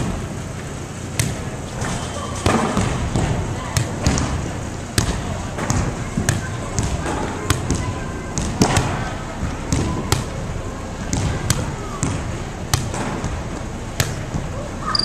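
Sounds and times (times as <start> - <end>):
volleyballs thumping on wooden floor: 1.1 - 10.4, 11.0 - 14.5.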